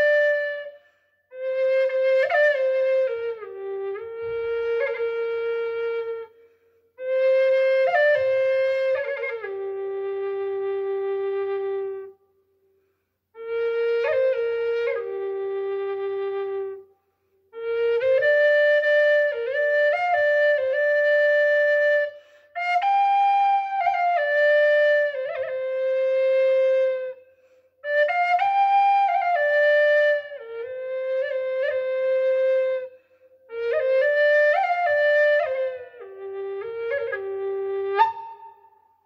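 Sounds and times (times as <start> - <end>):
solo flute melody: 0.0 - 12.4, 13.4 - 39.0.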